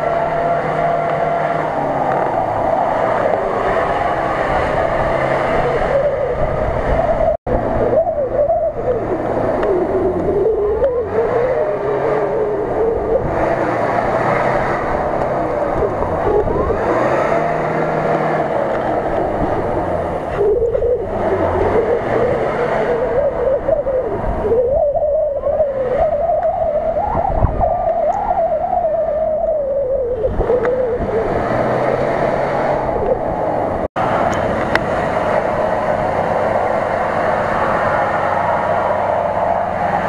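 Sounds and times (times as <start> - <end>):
pickup engine revving: 0.0 - 40.0.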